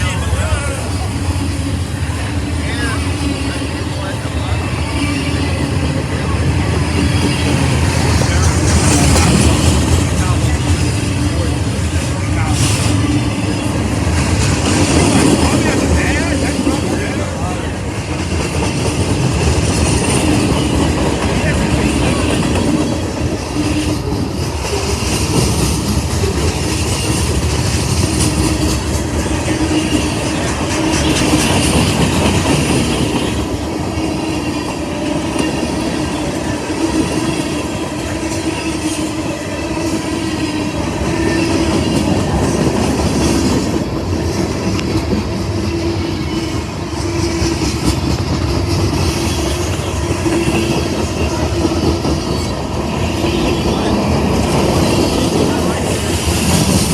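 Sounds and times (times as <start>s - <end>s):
freight cars rumbling on rails: 0.0s - 56.9s.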